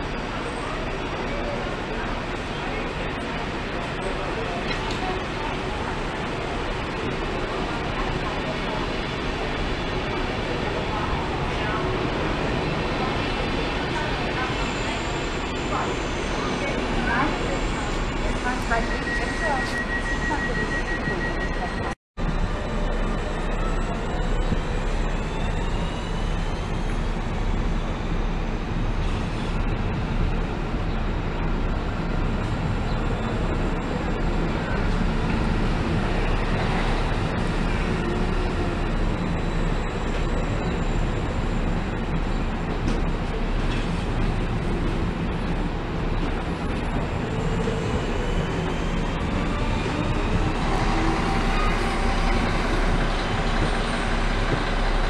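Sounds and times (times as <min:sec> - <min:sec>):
train rumble and hum: 0:00.0 - 0:55.0.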